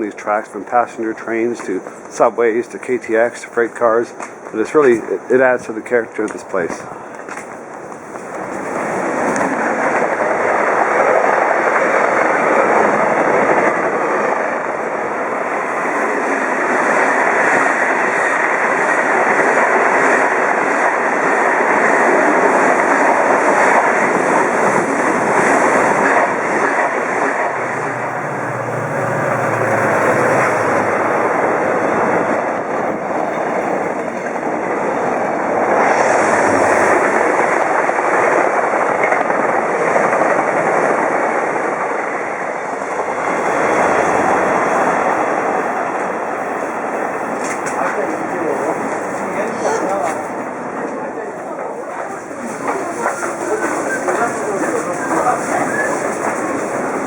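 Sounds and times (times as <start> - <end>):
train passing on rails: 0.0 - 57.0.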